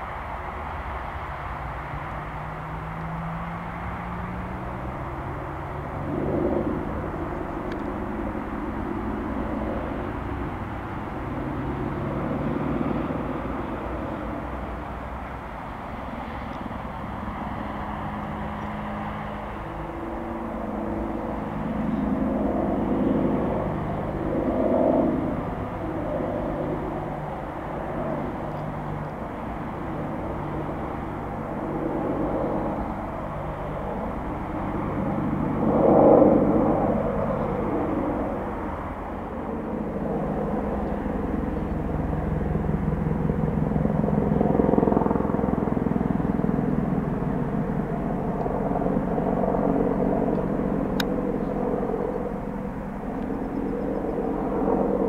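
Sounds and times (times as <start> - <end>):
distant helicopter drone: 0.0 - 55.0.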